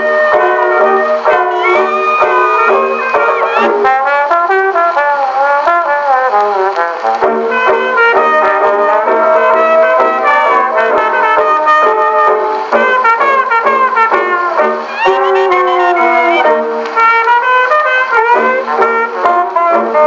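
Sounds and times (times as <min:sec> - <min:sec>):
jazz dance band with trumpet: 0:00.0 - 0:20.0.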